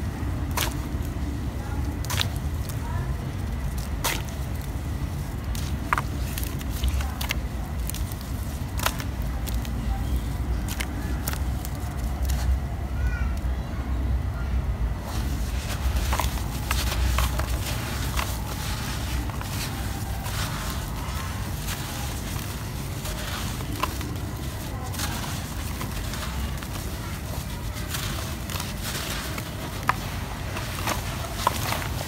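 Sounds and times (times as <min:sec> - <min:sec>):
wet squelches: 0:00.0 - 0:12.6, 0:14.9 - 0:32.0
dry dirt clumps crunching: 0:00.0 - 0:12.7, 0:14.9 - 0:32.0.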